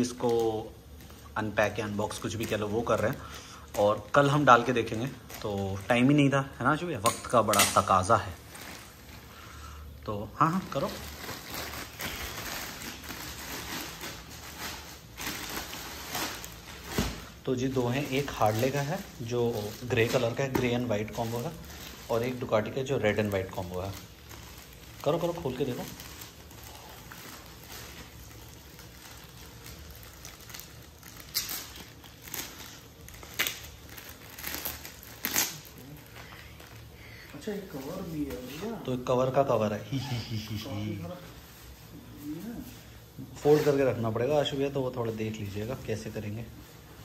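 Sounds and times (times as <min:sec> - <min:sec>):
plastic packaging crinkling: 0:00.0 - 0:47.0.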